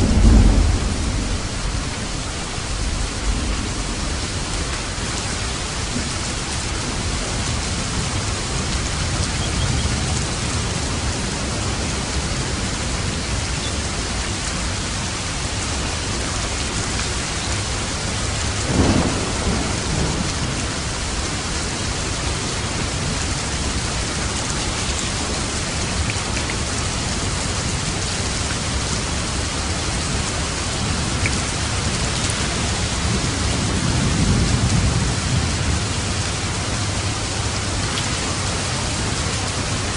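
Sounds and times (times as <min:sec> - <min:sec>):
thunder rumbling: 0:00.0 - 0:14.4, 0:15.4 - 0:26.0, 0:26.6 - 0:39.9
heavy rain: 0:00.0 - 0:39.9.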